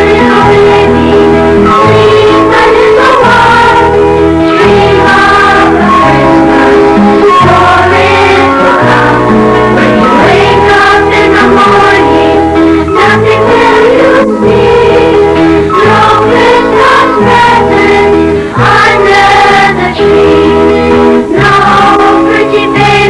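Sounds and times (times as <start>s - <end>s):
children's choir singing: 0.0s - 23.0s
instrumental accompaniment with bass: 0.0s - 23.0s.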